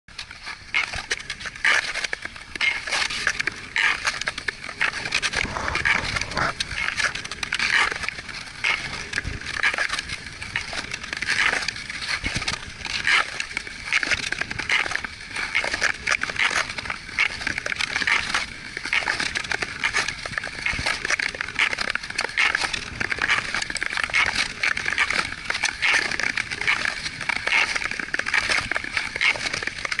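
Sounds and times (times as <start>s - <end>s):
ice skate blades scraping on ice: 0.2s - 30.0s.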